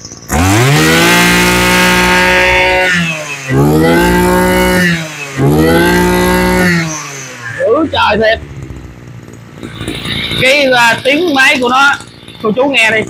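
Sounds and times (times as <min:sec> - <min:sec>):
brush cutter engine revving: 0:00.0 - 0:13.0.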